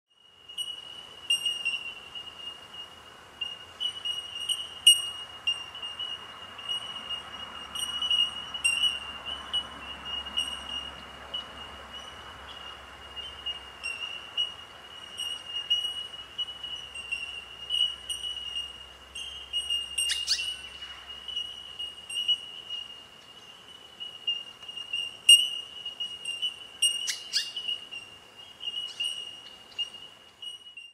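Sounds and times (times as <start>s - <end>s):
bell-like bird calls: 0.5s - 2.4s, 3.4s - 22.9s, 24.3s - 28.1s, 28.8s - 30.9s.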